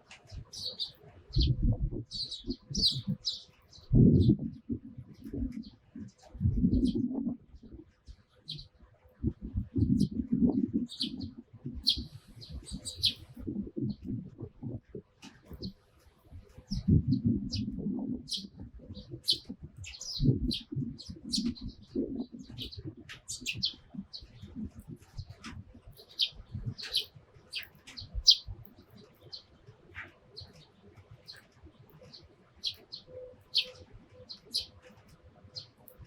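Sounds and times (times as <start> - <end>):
sparrows chirping: 0.3 - 14.2, 16.6 - 36.0.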